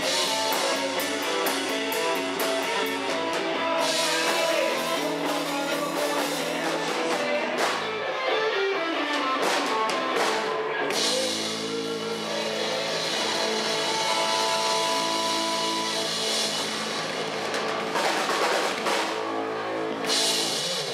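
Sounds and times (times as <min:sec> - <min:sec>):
drum kit: 0:00.0 - 0:08.2, 0:09.0 - 0:20.9
electric bass: 0:00.0 - 0:20.9
electric guitar chords: 0:00.0 - 0:20.9.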